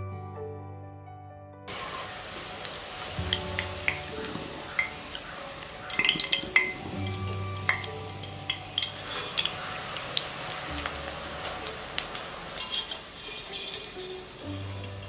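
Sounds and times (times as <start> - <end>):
background music with held notes: 0.0 - 15.0
skimmer clinking against pot: 2.0 - 15.0.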